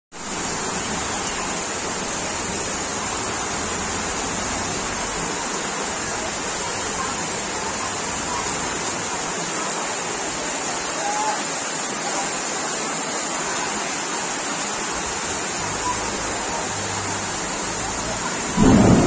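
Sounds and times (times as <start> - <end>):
floodwater rushing: 0.2 - 19.0.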